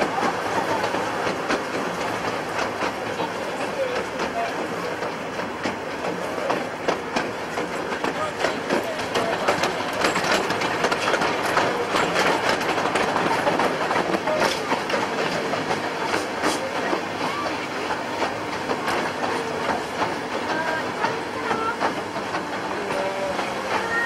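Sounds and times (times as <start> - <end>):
miniature train wheels rumbling: 0.0 - 24.0
track clicks and rattles: 0.0 - 24.0.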